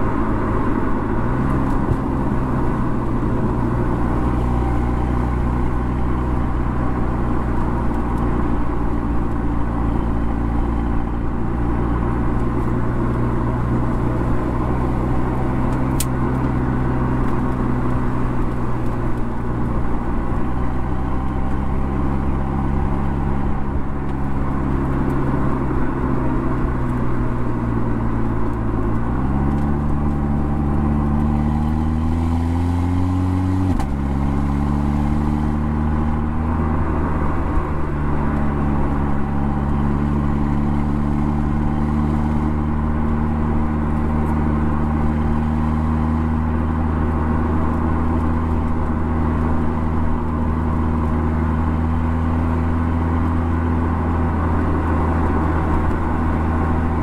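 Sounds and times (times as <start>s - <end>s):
car engine and exhaust: 0.0s - 57.0s
road noise: 0.0s - 57.0s.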